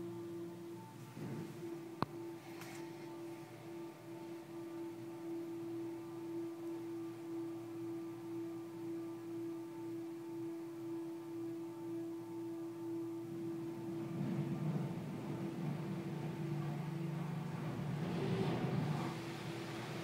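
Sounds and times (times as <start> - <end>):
car wash machinery humming: 0.0 - 20.0
faint low rumble: 0.0 - 20.0.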